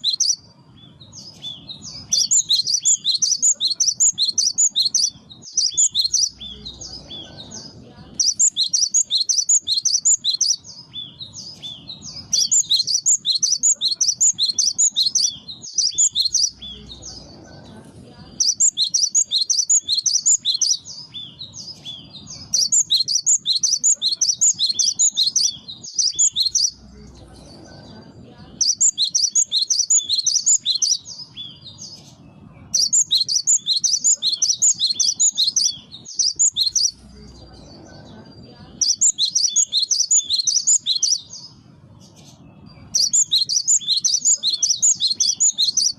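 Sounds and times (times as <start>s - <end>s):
bird chirping song: 0.0s - 45.9s.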